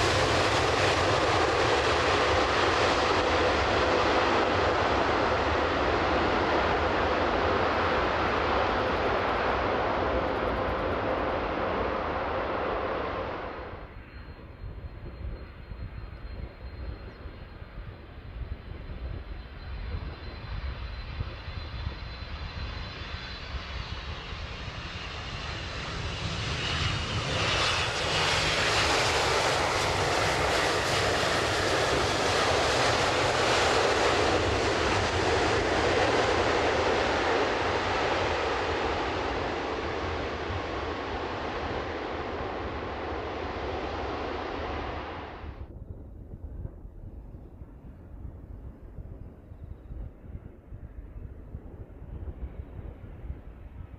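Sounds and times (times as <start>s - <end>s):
jet engines whine and rush: 0.0s - 53.9s.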